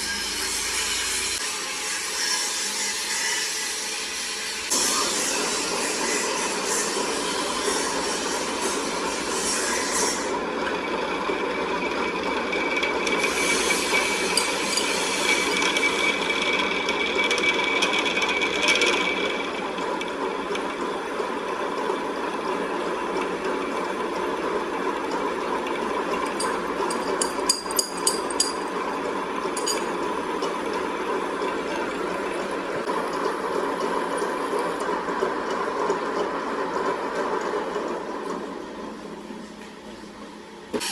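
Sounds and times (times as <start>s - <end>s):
workshop machine running: 0.0s - 40.9s.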